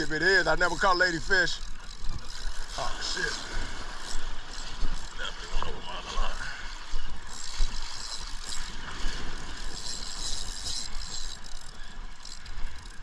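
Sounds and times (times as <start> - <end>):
fishing reel ratcheting whir: 0.0 - 13.0.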